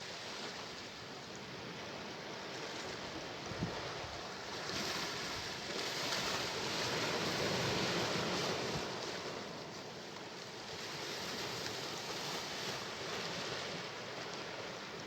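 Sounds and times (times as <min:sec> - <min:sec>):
sea waves breaking ashore: 0:00.0 - 0:15.0.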